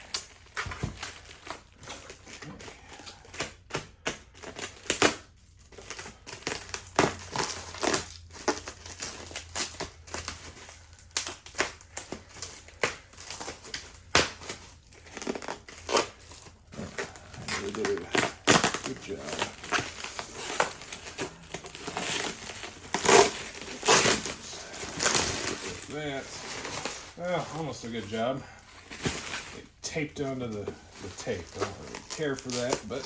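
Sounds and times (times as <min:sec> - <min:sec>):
bubble wrap crinkling: 0:00.0 - 0:33.0.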